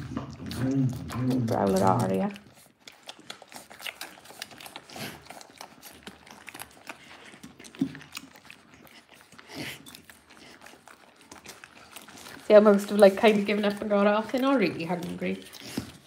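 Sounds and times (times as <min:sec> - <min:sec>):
puppy grunt: 0:00.0 - 0:15.0
puppies suckling wet clicks: 0:00.0 - 0:16.0.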